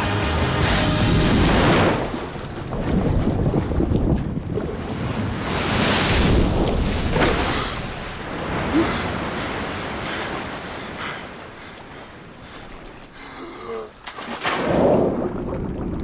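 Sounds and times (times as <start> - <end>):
ocean waves crashing: 0.3 - 13.8.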